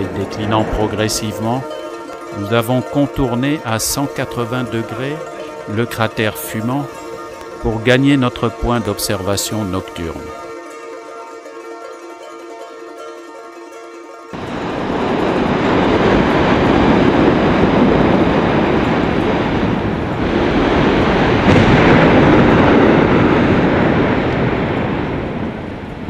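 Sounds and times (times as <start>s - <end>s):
volcano vent rushing: 0.0s - 9.8s, 14.4s - 26.0s.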